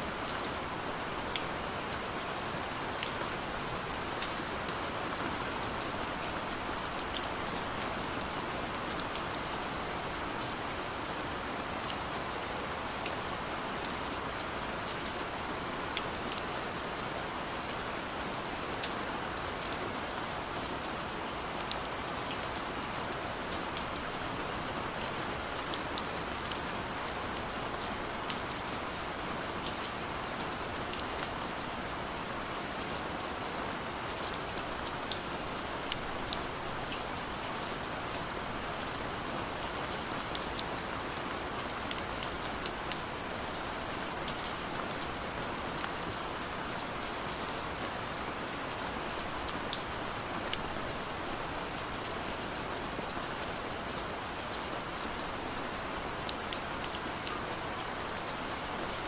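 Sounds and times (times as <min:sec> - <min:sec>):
gentle rain: 0:00.0 - 0:59.0.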